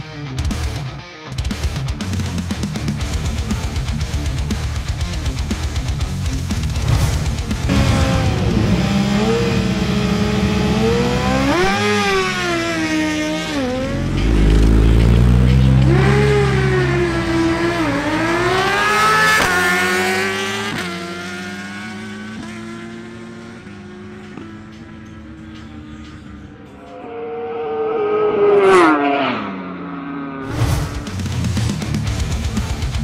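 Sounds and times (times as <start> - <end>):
motorcycle engines revving: 2.0 - 33.0
motorcycles accelerating with upshifts: 3.6 - 32.2.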